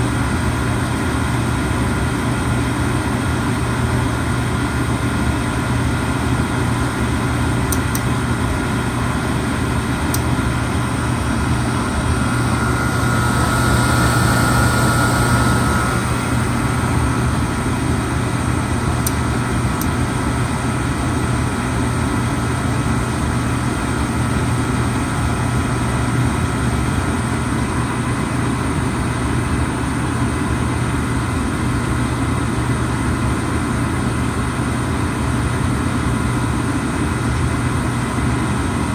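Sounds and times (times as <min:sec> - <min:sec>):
oil burner hum and rushing: 0:00.0 - 0:38.9.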